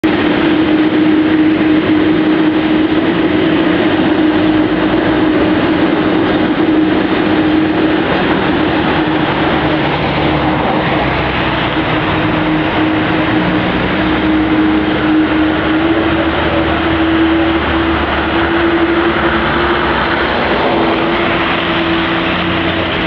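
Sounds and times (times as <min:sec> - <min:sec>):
deep rumble: 0:00.0 - 0:23.0
jet engines roaring: 0:00.0 - 0:23.0.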